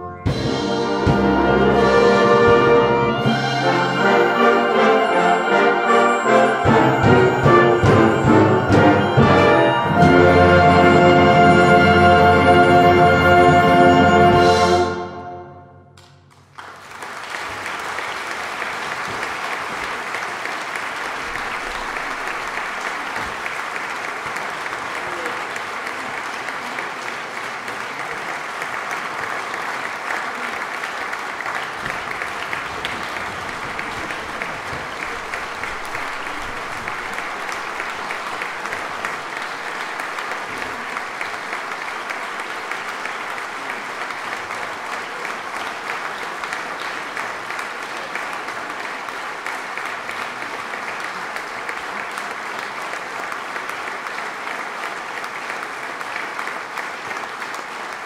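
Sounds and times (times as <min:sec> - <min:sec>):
large audience applauding: 0:00.8 - 0:15.0, 0:16.0 - 0:58.0.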